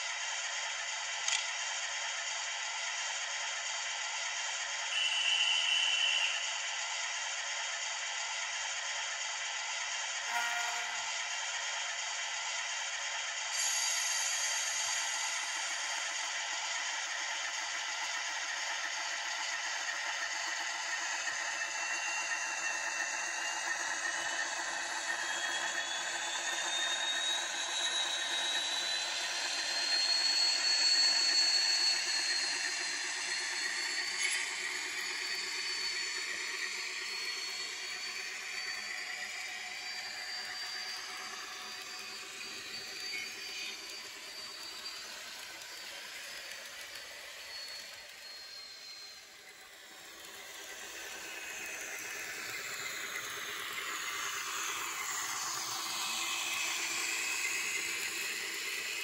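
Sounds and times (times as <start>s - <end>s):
model train running past: 0.0s - 59.0s
high motor whine: 0.1s - 59.0s.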